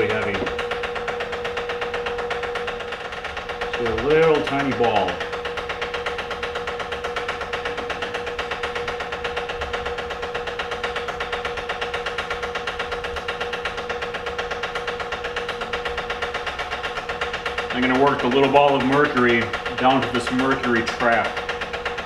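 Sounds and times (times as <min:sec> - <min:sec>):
steady hum: 0:00.0 - 0:22.0
vacuum pump pulsing: 0:00.0 - 0:22.0.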